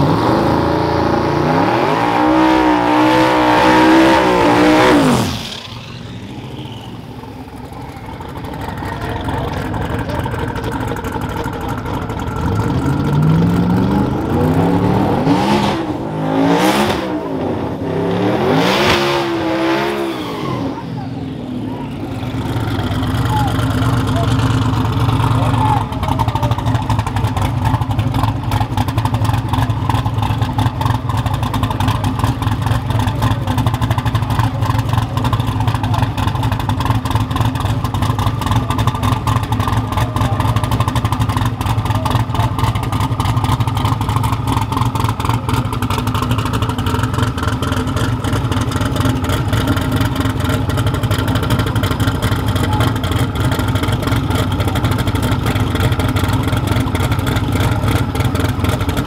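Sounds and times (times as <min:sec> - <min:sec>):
truck engine running loudly: 0:00.0 - 0:59.0.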